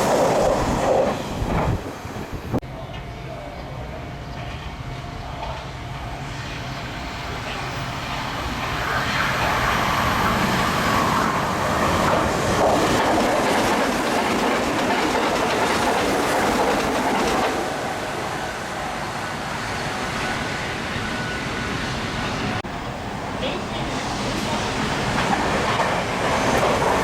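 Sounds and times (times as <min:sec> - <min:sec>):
electric train passing at speed: 0:00.0 - 0:27.0.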